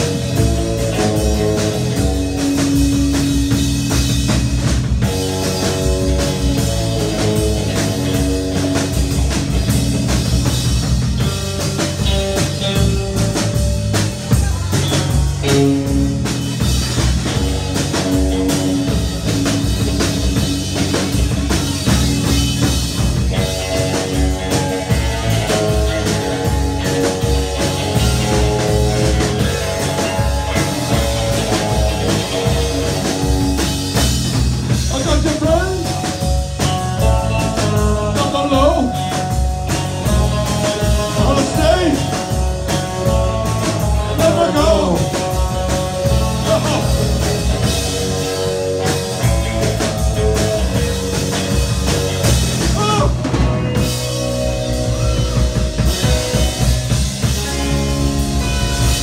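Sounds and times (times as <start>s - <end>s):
drum kit beat: 0.0s - 59.0s
electric guitars: 0.0s - 59.0s.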